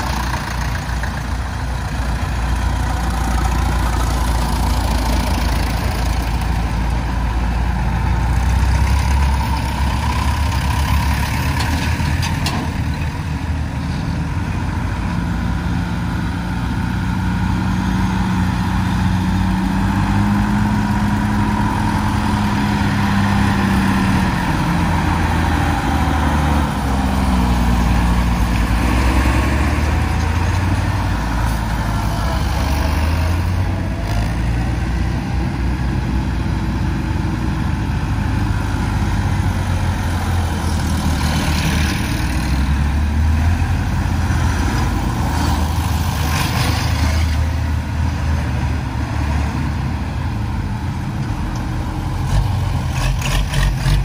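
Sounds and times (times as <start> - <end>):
tractor engines droning: 0.0 - 54.0.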